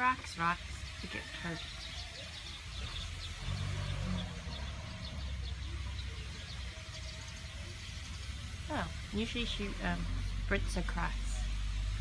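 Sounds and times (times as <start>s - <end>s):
low motor rumble: 0.4s - 12.0s.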